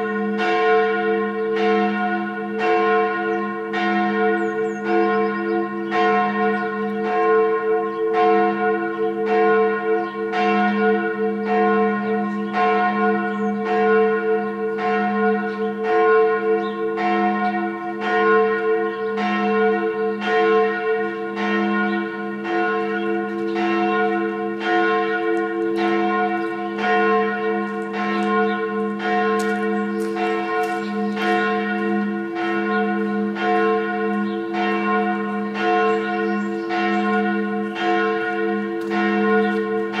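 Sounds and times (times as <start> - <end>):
church bell ringing: 0.0 - 40.0.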